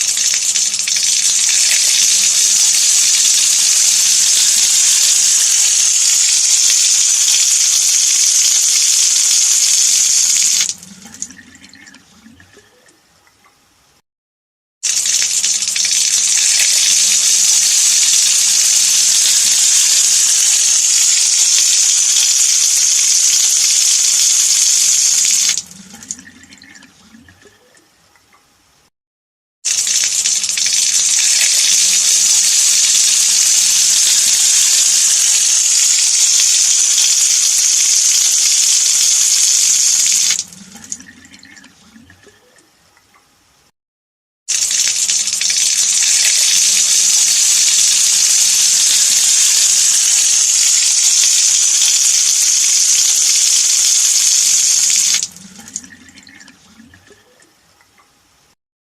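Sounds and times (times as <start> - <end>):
tap water running into sink: 0.0 - 12.6, 14.9 - 27.5, 29.7 - 42.3, 44.5 - 57.2
water trickles and drips: 0.0 - 13.6, 14.9 - 28.5, 29.7 - 35.2, 35.8 - 43.2, 44.5 - 58.2.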